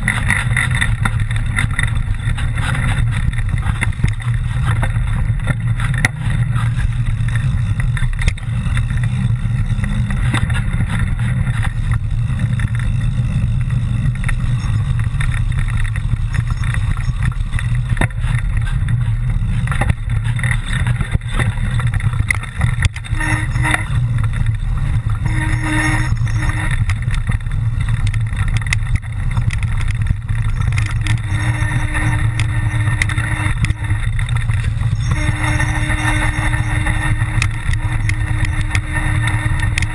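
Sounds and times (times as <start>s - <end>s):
bike rattling clicks: 0.0s - 39.9s
rumble of wind and tyres: 0.0s - 39.9s.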